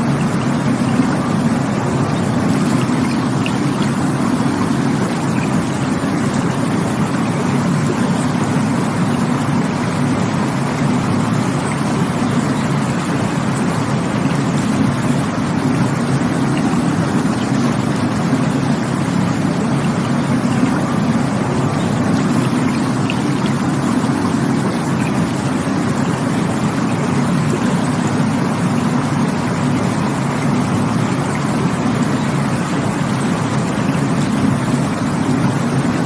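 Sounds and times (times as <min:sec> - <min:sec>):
rushing water: 0:00.0 - 0:36.0.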